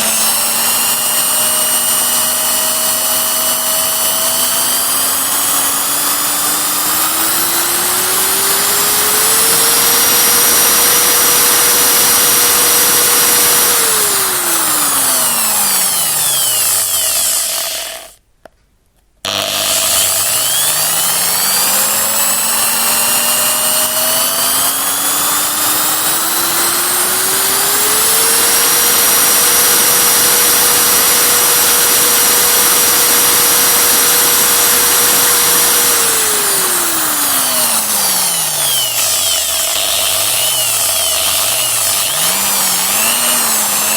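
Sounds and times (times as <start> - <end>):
electric drill motor spinning: 0.0 - 18.2, 19.3 - 43.9.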